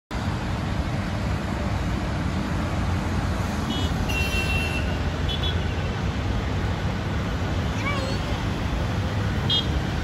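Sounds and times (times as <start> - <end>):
city road traffic rumble: 0.1 - 10.0.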